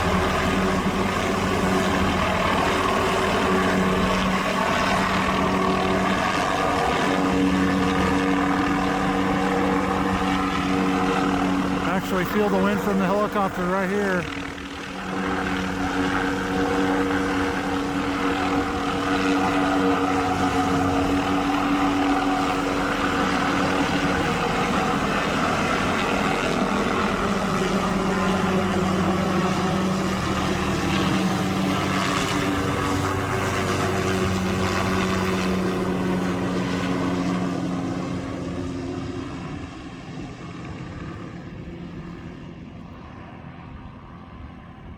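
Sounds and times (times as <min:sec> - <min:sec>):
helicopter drone: 0:00.0 - 0:44.9.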